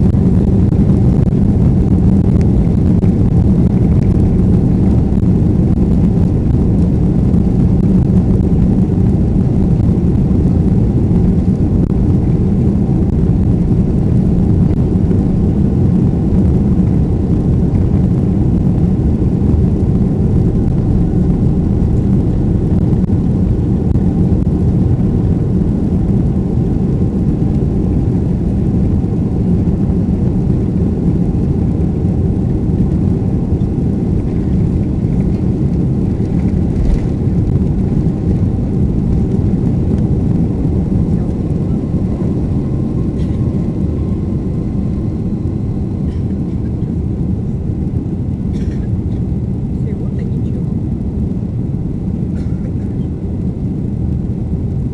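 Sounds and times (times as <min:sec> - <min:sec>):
jet engines roaring: 0:00.0 - 0:54.9
wheels rumbling on runway: 0:00.0 - 0:54.9.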